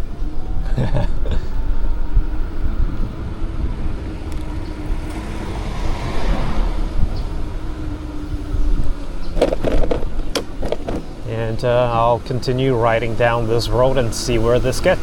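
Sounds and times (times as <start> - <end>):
bike road rumble: 0.0 - 15.0
steady low hum: 0.0 - 15.0
wind buffeting microphone: 0.0 - 15.0.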